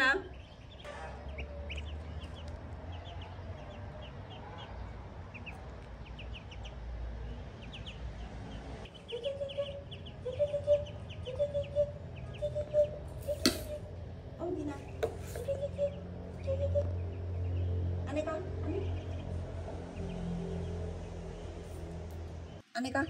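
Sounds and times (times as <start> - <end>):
ducklings peeping: 0.0 - 13.9, 14.5 - 22.6.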